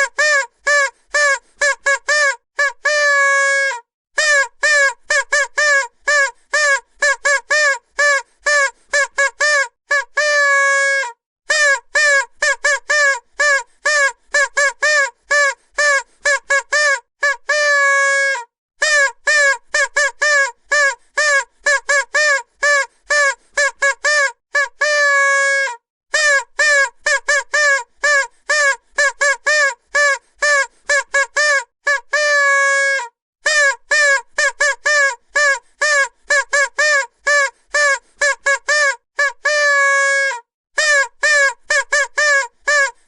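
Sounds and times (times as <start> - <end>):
vuvuzela short blasts: 0.0 - 43.0.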